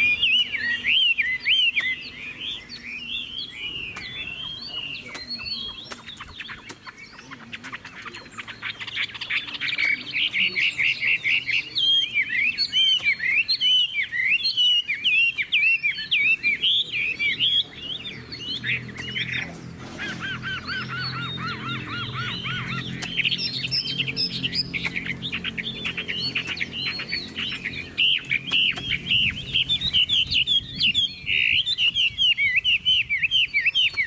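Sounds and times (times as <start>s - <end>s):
songbird whistling song: 0.0s - 34.0s.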